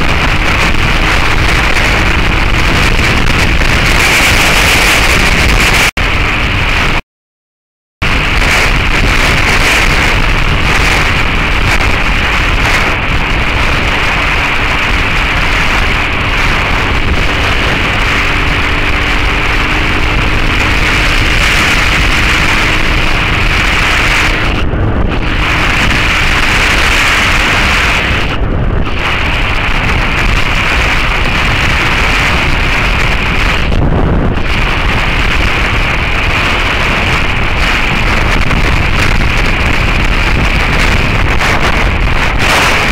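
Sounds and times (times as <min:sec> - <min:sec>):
motorcycle engine: 0:00.0 - 0:07.0, 0:08.0 - 0:42.9
wind buffeting microphone: 0:00.0 - 0:07.0, 0:08.0 - 0:42.9.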